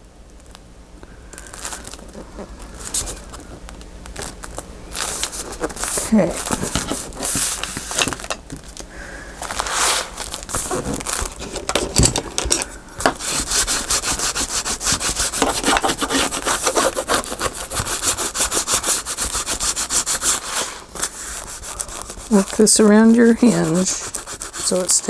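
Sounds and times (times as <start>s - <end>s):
paper rustling and scraping: 1.4s - 8.8s, 9.4s - 25.0s.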